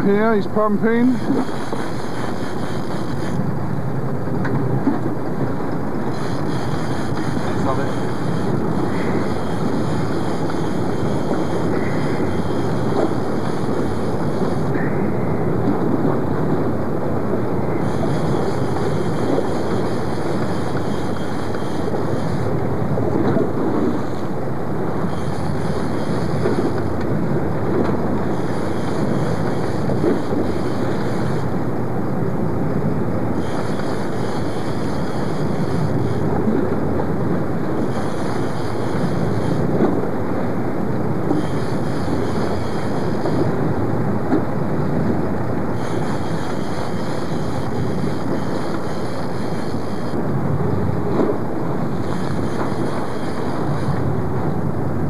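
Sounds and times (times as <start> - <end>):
boat and water noise: 0.0 - 55.0
wind rushing over microphone: 0.0 - 55.0.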